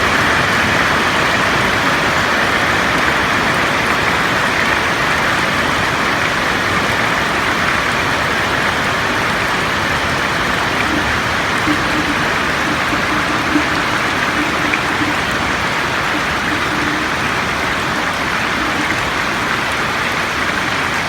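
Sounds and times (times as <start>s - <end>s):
rain falling on a roof: 0.0s - 21.0s.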